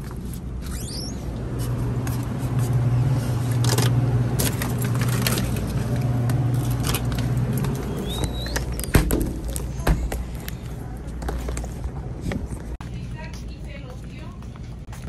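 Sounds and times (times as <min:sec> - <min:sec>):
refrigerator cooler hum: 0:00.0 - 0:12.8.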